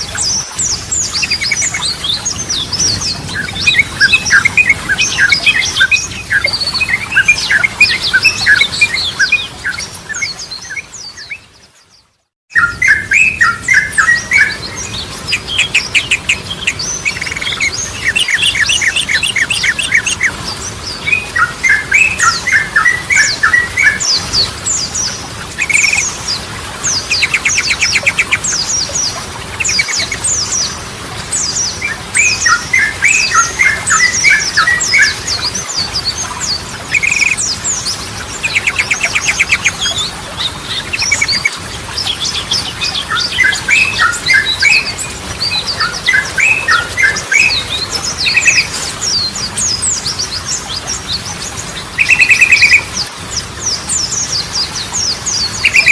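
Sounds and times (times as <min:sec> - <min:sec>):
bird singing: 0:00.0 - 0:55.9.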